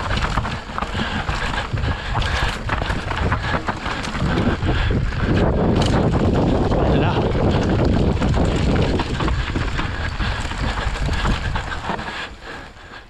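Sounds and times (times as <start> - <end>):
bike knocks and rattles: 0.0 - 12.4
bike tyres on stones: 0.0 - 13.0
wind buffeting microphone: 0.0 - 13.0.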